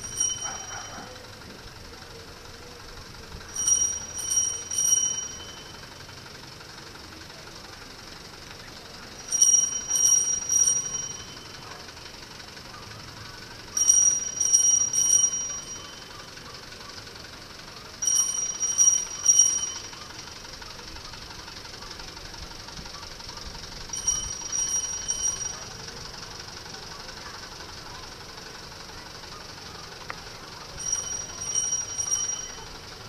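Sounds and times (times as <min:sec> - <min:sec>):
small high-pitched bell: 0:00.0 - 0:06.4, 0:08.8 - 0:17.1, 0:17.8 - 0:33.0
crowd murmur: 0:00.0 - 0:33.0.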